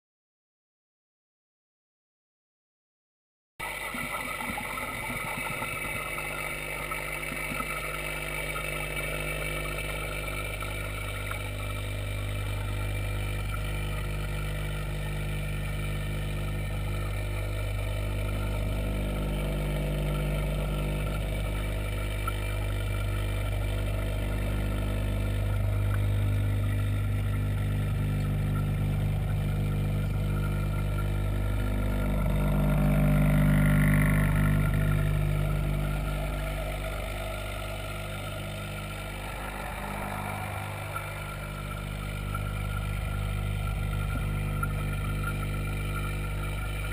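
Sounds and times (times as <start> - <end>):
pump humming underwater: 3.6 - 46.9.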